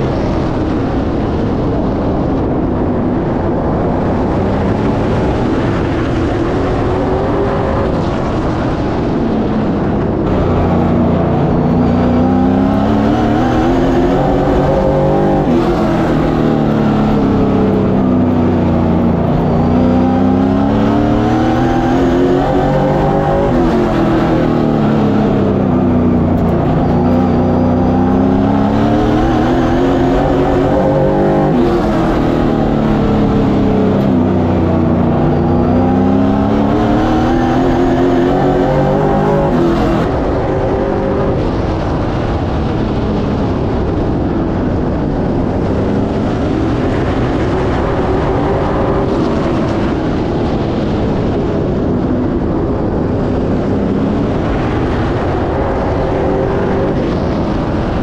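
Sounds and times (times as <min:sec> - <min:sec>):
race car engine revving: 0:00.0 - 0:58.0
wind rushing: 0:00.0 - 0:58.0.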